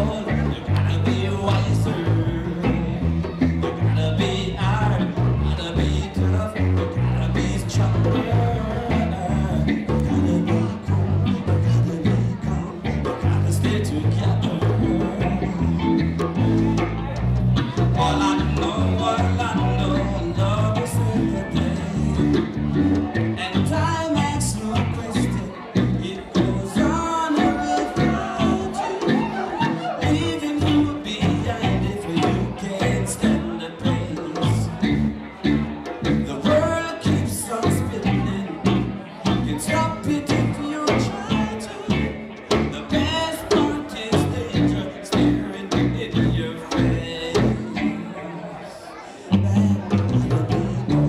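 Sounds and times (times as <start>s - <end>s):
drum kit beat: 0.0s - 47.9s
man singing into a microphone: 0.0s - 51.0s
reggae band playing: 0.0s - 51.0s.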